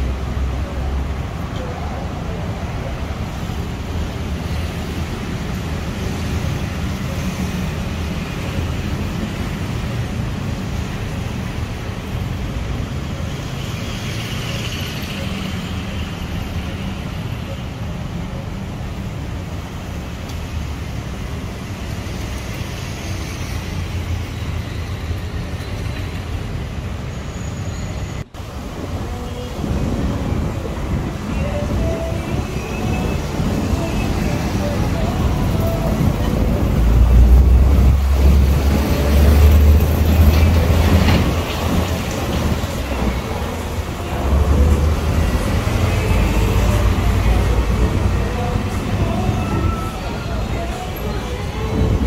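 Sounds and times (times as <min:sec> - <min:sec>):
low rumble of road traffic: 0:00.0 - 0:52.0.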